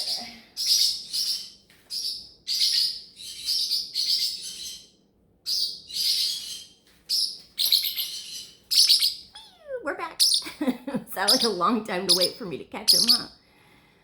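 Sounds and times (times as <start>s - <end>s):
parrot chicks chirping: 0.0s - 13.3s.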